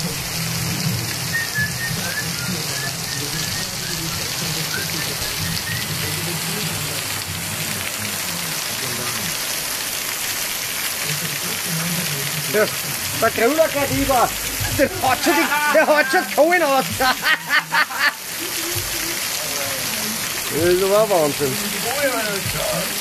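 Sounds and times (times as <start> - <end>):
heavy rain on flooded pavement: 0.0 - 23.0.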